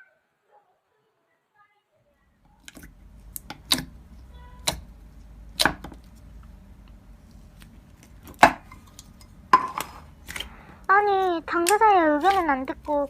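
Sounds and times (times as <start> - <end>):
slime squishing with pops: 2.5 - 13.0.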